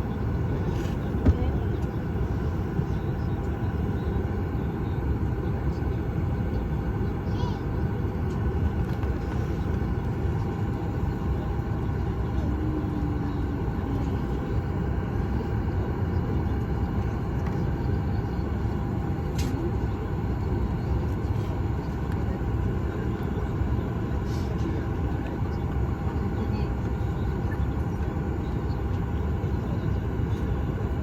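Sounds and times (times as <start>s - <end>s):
aircraft cabin rumble: 0.0s - 31.0s
steady hum: 0.0s - 31.0s.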